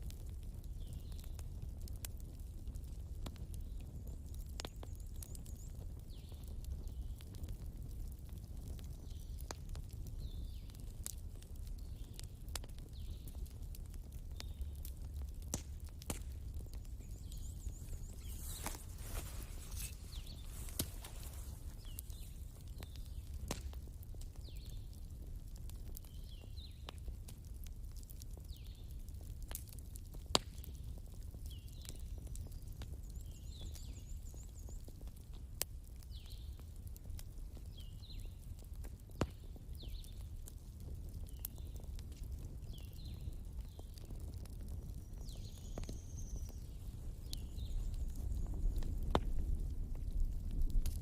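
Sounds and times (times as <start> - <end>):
fire pops: 0.0 - 51.0
wood fire crackling: 0.0 - 51.0.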